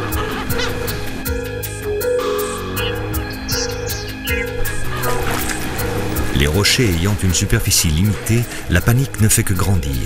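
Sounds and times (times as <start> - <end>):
sustained music tones: 0.0 - 10.0.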